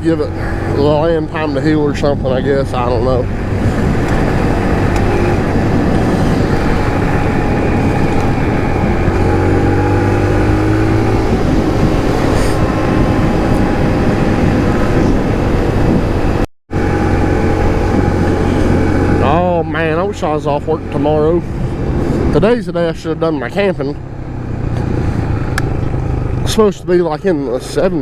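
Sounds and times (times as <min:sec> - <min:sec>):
pit bike engine running: 0:00.0 - 0:27.6
wind noise: 0:00.0 - 0:28.0.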